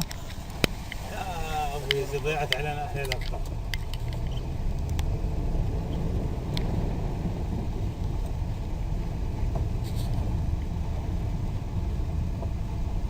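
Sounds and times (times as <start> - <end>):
car interior driving rumble: 0.0 - 13.0.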